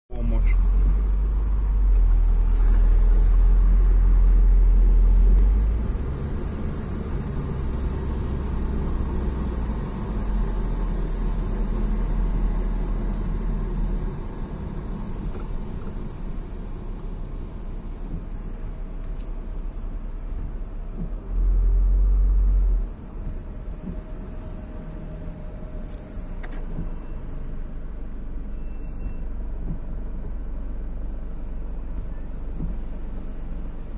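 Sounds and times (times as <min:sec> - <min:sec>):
engine and tyre rumble: 0:00.1 - 0:33.9.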